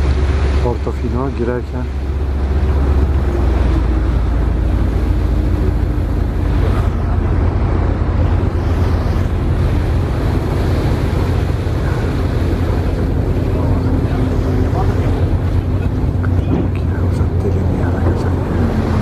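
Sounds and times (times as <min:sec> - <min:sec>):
boat engine rumbling: 0:00.0 - 0:19.0
water washing: 0:00.0 - 0:19.0
wind on microphone: 0:02.0 - 0:19.0.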